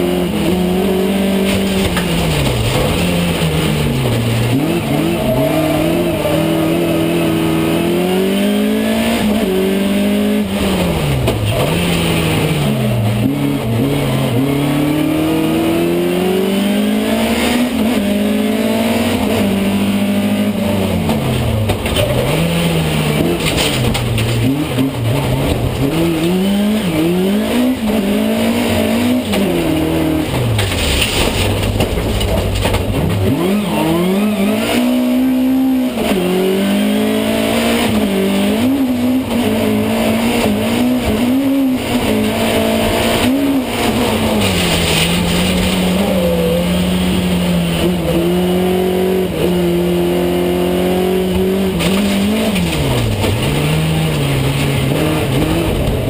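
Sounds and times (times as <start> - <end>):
race car engine revving: 0.0 - 56.0
road and tyre noise: 0.0 - 56.0.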